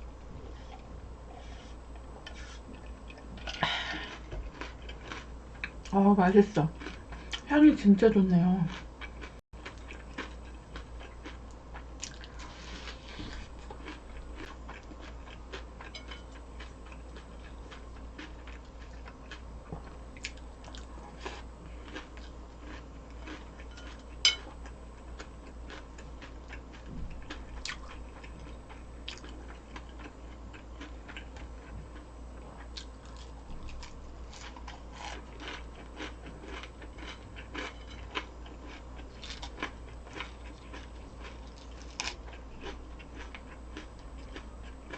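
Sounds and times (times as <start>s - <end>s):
low steady hum: 0.0s - 44.9s
person chewing crunchy food: 0.4s - 6.0s, 6.7s - 7.5s, 8.7s - 44.9s.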